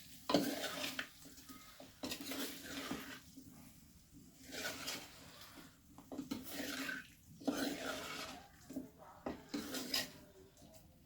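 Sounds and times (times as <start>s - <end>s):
food sizzling in a pan: 0.0s - 10.2s
spoon scraping a pan: 0.0s - 10.9s.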